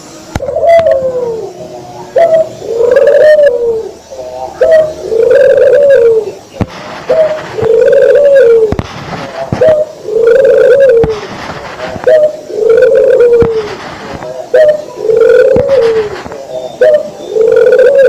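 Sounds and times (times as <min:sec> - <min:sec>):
dove cooing: 0:00.4 - 0:18.0.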